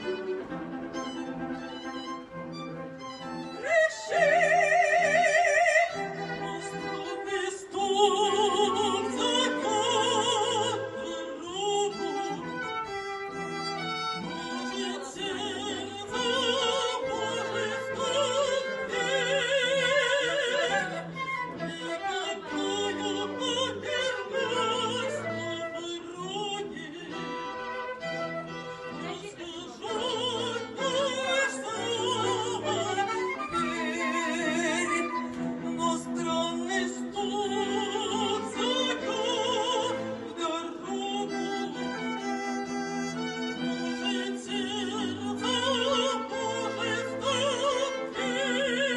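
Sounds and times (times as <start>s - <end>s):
chamber ensemble playing: 0.0s - 48.9s
operatic soprano singing: 3.4s - 48.9s.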